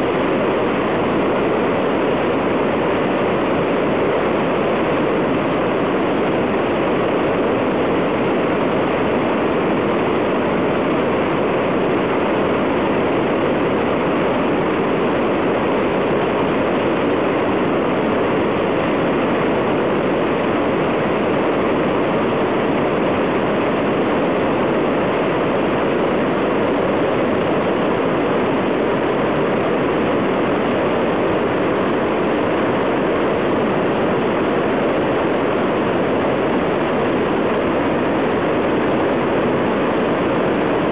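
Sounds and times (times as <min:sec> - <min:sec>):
floodwater roaring over rocks: 0:00.0 - 0:40.9.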